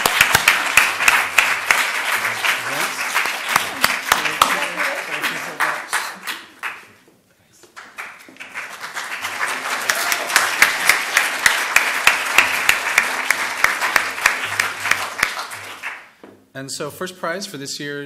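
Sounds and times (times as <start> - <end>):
audience applauding: 0.0 - 7.0, 7.7 - 16.2.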